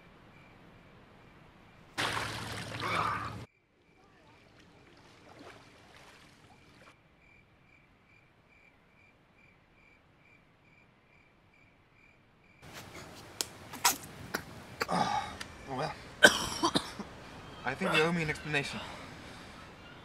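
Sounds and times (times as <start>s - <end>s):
outdoor ambience: 0.0s - 20.0s.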